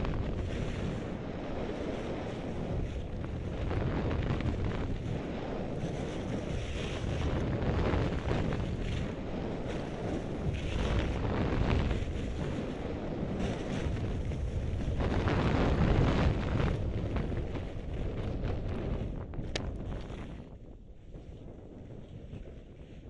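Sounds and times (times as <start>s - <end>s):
skis scraping over snow: 0.0s - 23.0s
wind buffeting microphone: 0.0s - 23.0s.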